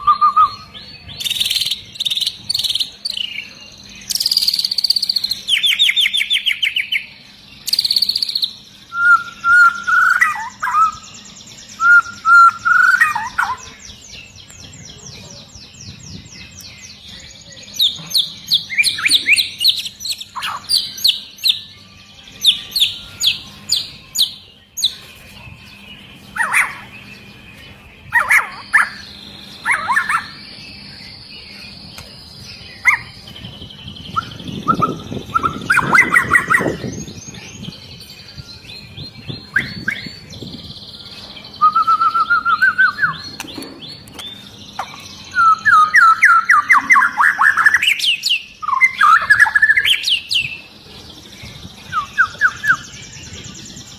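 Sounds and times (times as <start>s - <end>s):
songbird singing whistles: 0.0s - 50.7s, 51.3s - 53.9s.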